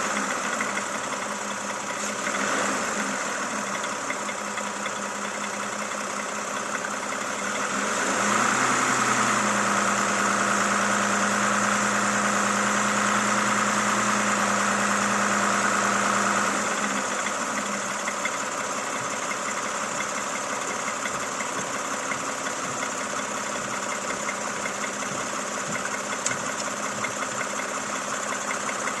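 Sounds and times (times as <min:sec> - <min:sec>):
car engine idling and revving: 0:00.0 - 0:29.0
engine ticking: 0:00.0 - 0:29.0.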